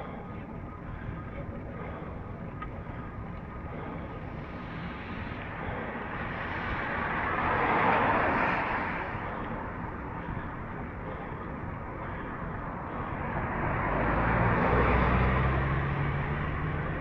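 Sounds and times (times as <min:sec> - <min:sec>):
steady background rush: 0:00.0 - 0:17.0.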